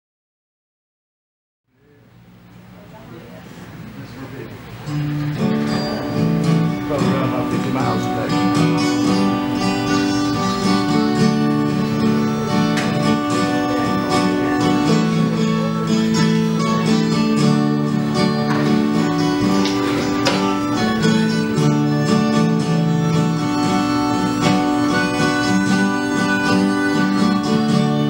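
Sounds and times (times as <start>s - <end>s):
acoustic guitar playing: 2.0s - 28.0s.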